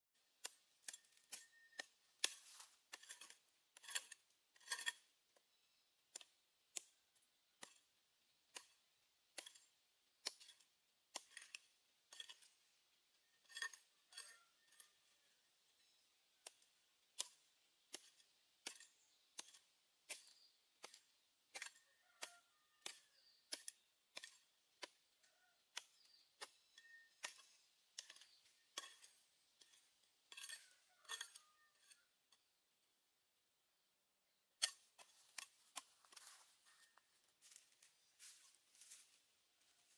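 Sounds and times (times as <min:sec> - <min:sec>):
hammer and tool chipping earth: 0:00.2 - 0:32.6, 0:34.5 - 0:37.0.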